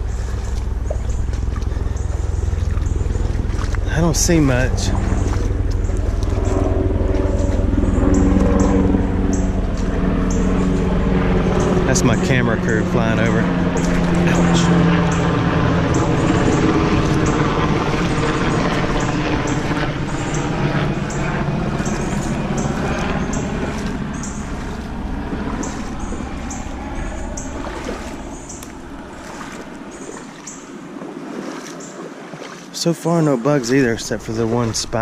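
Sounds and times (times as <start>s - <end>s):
aircraft passing overhead: 0.0s - 35.0s.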